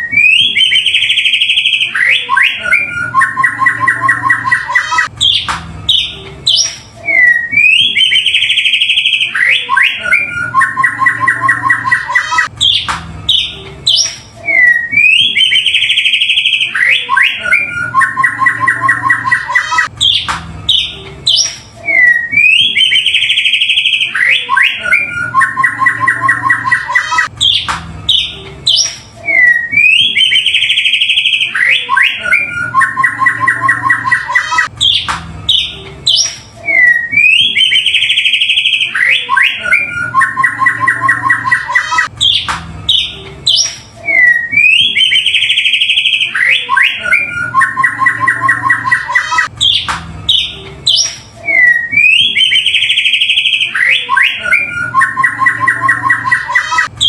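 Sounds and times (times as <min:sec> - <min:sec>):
bird song with trills and whistles: 0:00.0 - 0:57.0.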